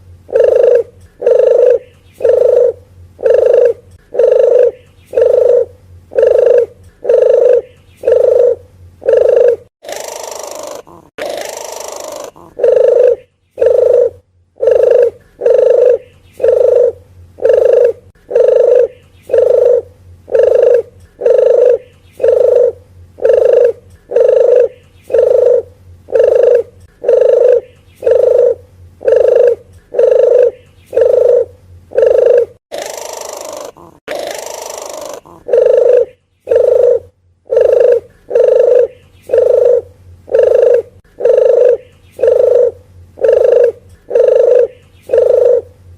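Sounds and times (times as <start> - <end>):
rough bird call: 0.3 - 45.7
dove cooing: 0.3 - 45.8.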